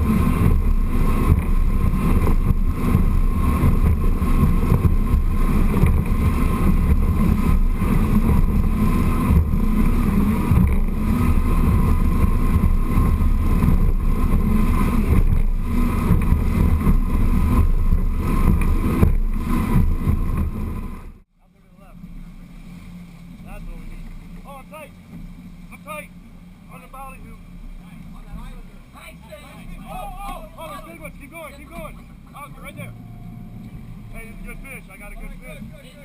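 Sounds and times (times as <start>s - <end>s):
boat outboard engines droning: 0.0s - 36.0s
rushing wind and water: 0.0s - 36.0s.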